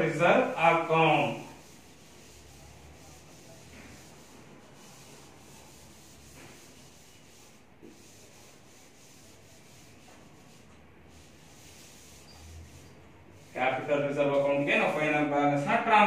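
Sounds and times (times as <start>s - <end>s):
eraser rubbing on chalkboard: 0.0s - 15.3s.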